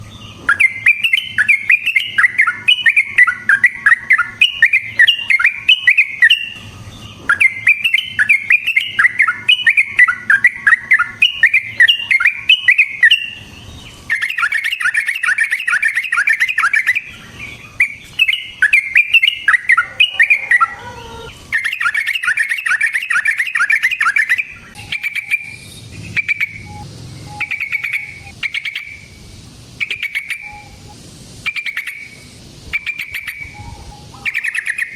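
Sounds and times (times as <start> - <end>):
bulbul singing bubbly chattering notes: 0.4 - 34.9.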